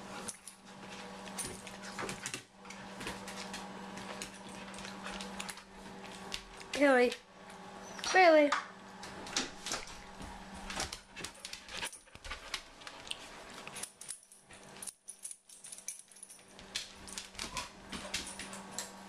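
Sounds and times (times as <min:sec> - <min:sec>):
dog claws clicking on floor: 0:00.2 - 0:08.2, 0:09.2 - 0:19.0.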